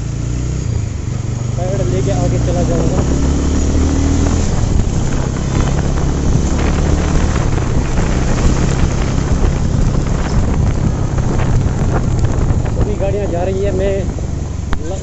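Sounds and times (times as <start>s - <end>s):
motorcycle engine low hum: 0.0s - 15.0s
wind buffeting microphone: 0.7s - 15.0s.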